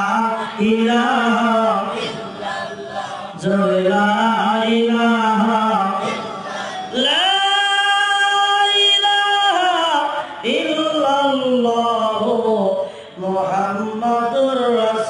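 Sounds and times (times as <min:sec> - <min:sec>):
man singing a devotional chant: 0:00.0 - 0:15.0.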